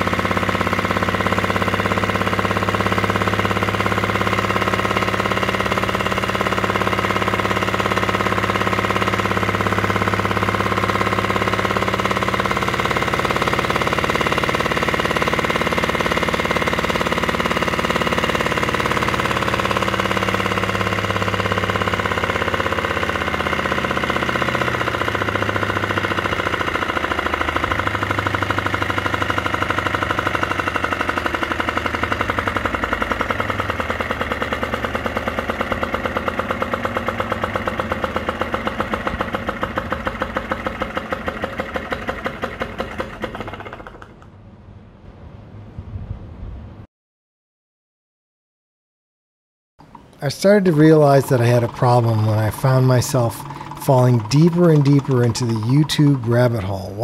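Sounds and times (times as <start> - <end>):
small engine rhythmic clatter: 0.0 - 44.3, 49.8 - 57.0.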